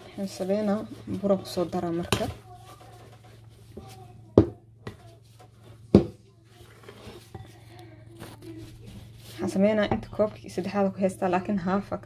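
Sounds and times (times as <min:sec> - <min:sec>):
pasta dough mixed by hand: 0:00.0 - 0:12.0.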